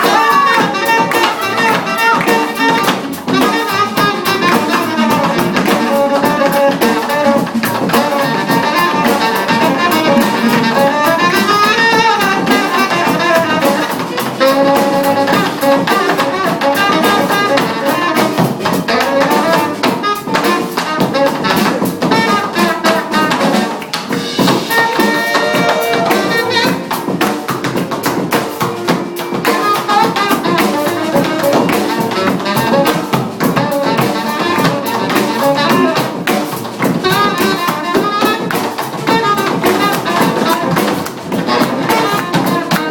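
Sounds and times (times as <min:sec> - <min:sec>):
drum kit beat: 0:00.0 - 0:42.9
saxophone melody: 0:00.0 - 0:42.9.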